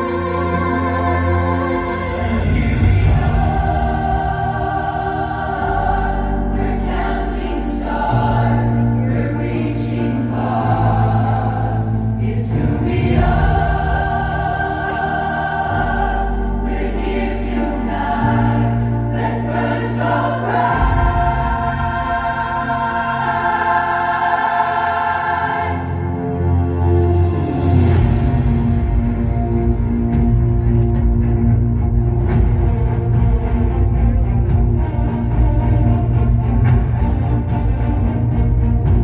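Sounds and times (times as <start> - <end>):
choir singing sustained chords: 0.0 - 39.0
low bass notes: 0.0 - 39.0.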